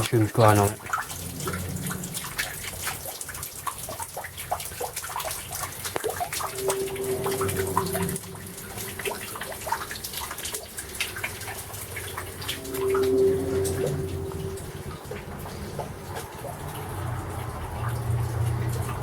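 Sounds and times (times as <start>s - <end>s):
water dripping and splashing: 0.0s - 19.0s.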